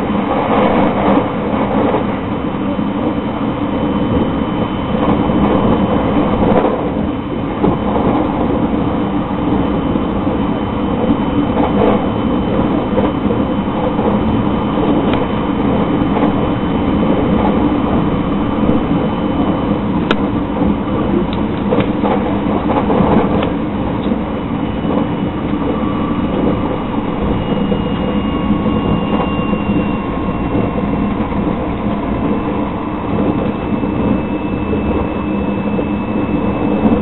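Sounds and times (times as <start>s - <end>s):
train rumble and hiss: 0.0s - 37.0s.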